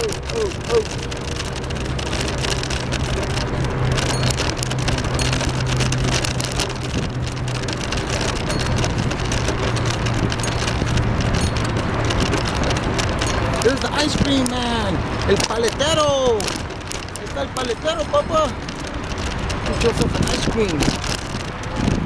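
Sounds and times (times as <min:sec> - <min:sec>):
bicycle clicks and rattles: 0:00.0 - 0:22.0
bicycle riding along a path: 0:00.0 - 0:22.0.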